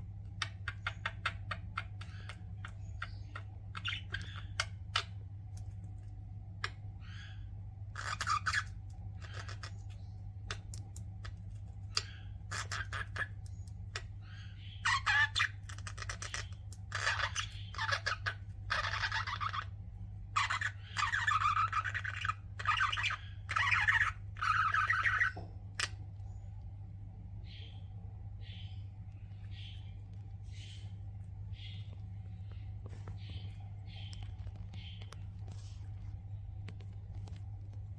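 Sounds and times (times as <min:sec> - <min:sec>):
budgerigars chirping and chattering: 0:00.2 - 0:05.2, 0:06.6 - 0:26.5, 0:27.4 - 0:37.4.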